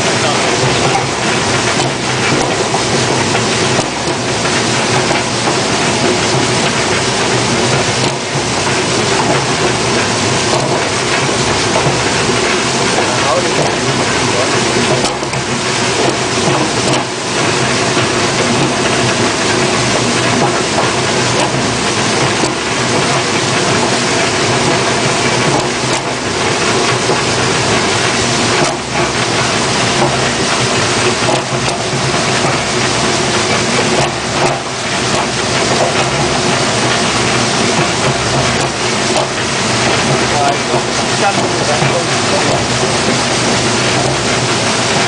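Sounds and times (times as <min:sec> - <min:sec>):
machine mechanical hum: 0:00.0 - 0:45.0
washing drum hiss and clatter: 0:00.0 - 0:45.0.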